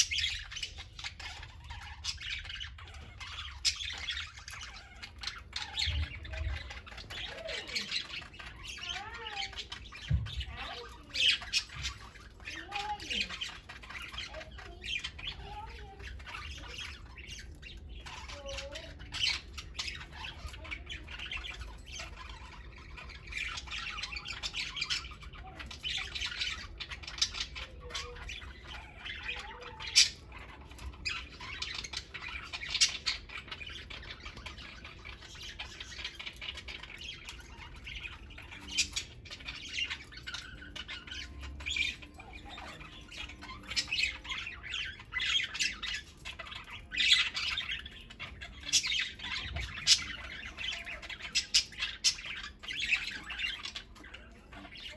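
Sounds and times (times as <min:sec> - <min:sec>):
budgerigars chattering: 0:00.0 - 0:54.9.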